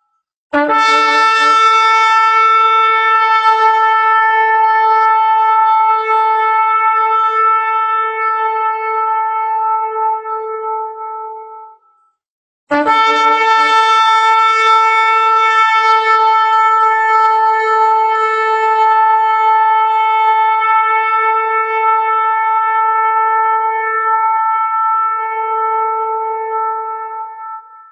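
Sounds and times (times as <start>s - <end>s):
horn blowing long blast: 0.6s - 11.9s, 12.7s - 27.9s.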